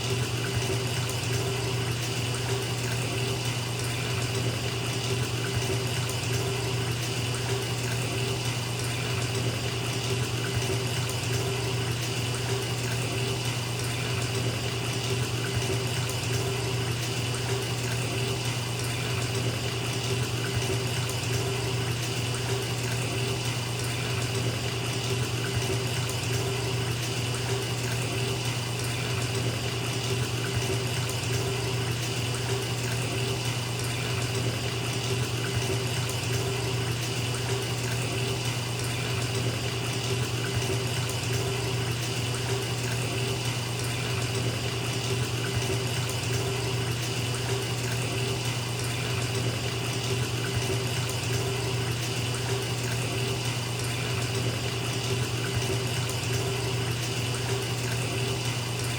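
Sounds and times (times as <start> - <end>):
tap filling bathtub: 0.0 - 58.9.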